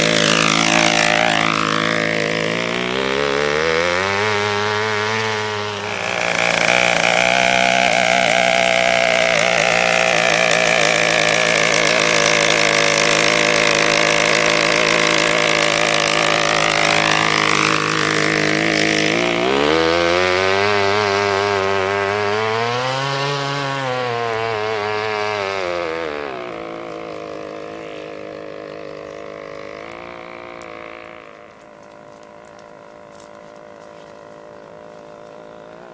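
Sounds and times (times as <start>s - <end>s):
two-stroke go-kart engine revving: 0.0s - 35.9s.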